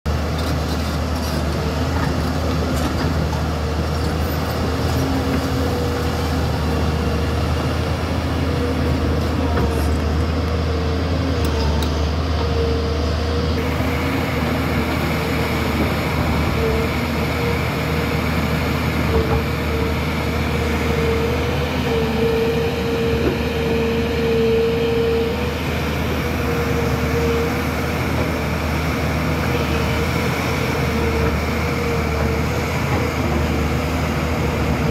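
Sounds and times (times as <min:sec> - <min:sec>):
excavator diesel engine droning: 0:00.1 - 0:34.9
hydraulic whine: 0:01.4 - 0:34.9.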